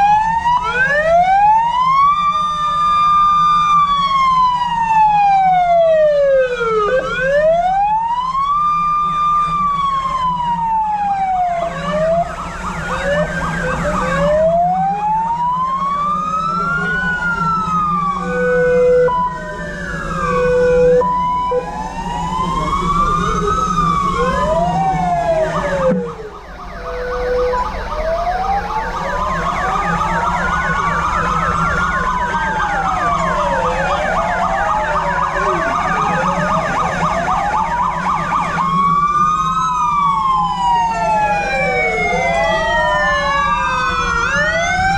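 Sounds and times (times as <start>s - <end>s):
sirens wailing: 0.0s - 44.9s.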